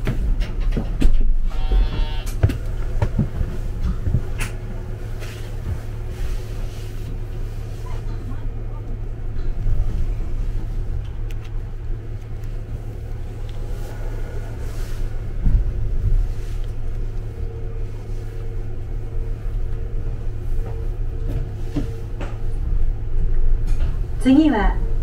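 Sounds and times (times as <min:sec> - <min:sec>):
electric train rumbling: 0:00.0 - 0:25.0
faint hum: 0:01.0 - 0:25.0.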